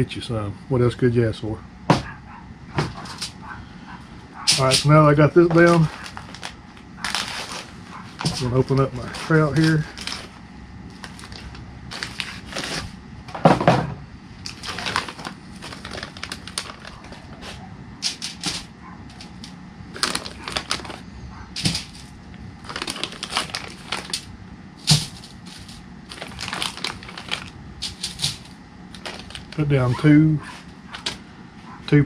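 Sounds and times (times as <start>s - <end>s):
plastic bag crinkling: 4.4s - 13.0s, 14.4s - 31.8s.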